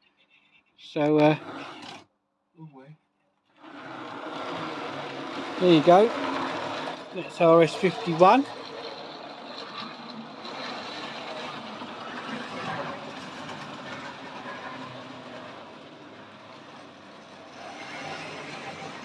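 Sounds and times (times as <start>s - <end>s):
model train motor whirring: 1.1s - 2.0s, 3.6s - 19.0s
wheels rumbling on rails: 3.6s - 19.0s.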